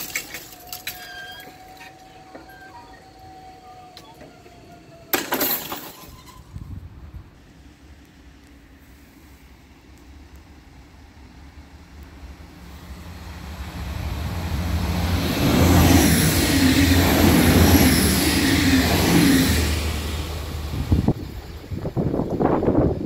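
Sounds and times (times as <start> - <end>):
high whine of train: 0.0 - 23.0
train wheels rumbling on rails: 0.0 - 23.0.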